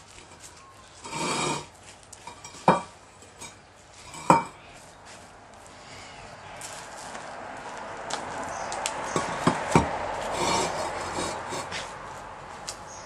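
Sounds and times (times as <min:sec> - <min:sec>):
paver scraping: 0:00.1 - 0:05.9, 0:06.6 - 0:12.8.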